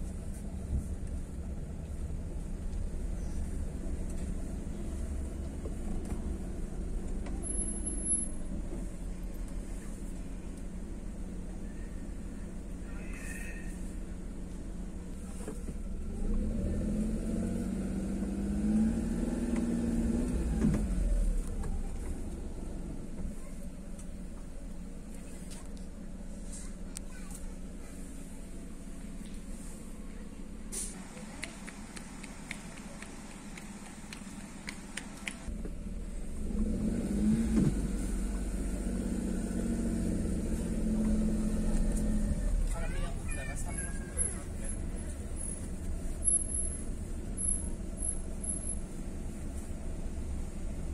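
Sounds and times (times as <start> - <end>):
car engine from inside cabin: 0.0 - 50.9
road noise: 0.0 - 50.9.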